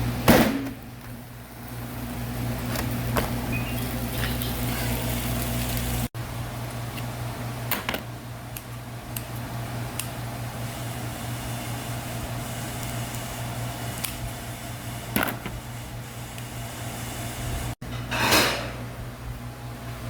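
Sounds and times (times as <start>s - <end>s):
kitchen fan humming: 0.0s - 20.0s.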